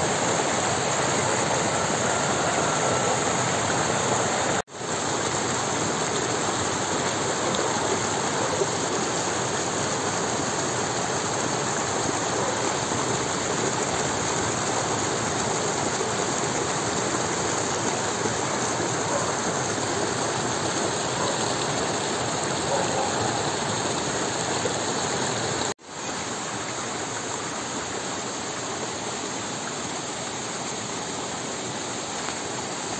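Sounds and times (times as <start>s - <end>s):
stream rushing over stones: 0.0s - 32.9s.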